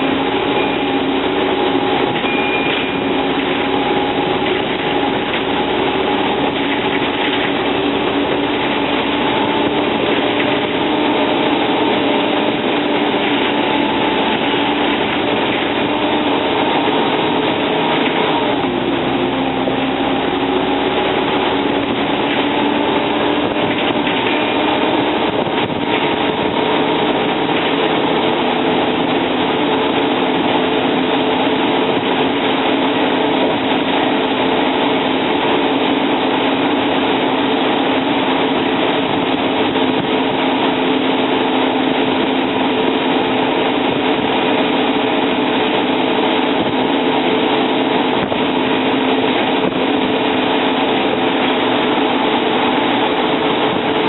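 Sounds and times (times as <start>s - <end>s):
bus diesel engine running: 0.0s - 54.0s
road noise: 0.0s - 54.0s.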